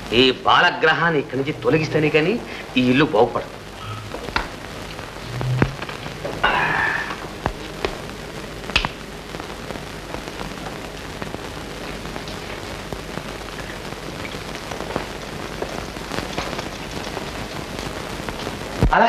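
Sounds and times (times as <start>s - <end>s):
film soundtrack hiss and crackle: 0.0s - 19.0s.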